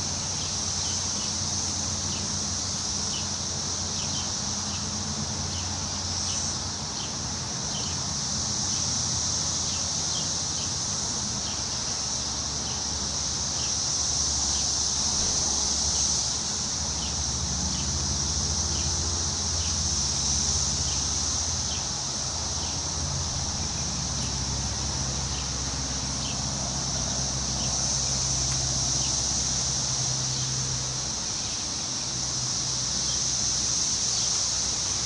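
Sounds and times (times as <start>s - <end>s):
high-pitched insect drone: 0.0s - 35.0s
wind rustling leaves: 0.0s - 35.0s.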